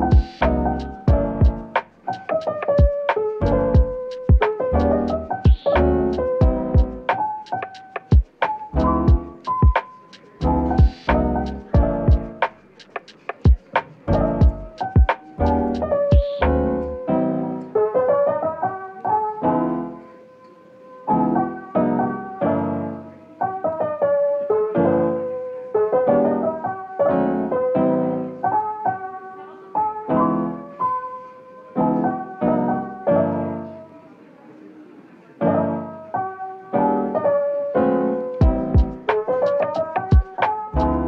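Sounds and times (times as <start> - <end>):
gentle piano chords: 0.0 - 41.0.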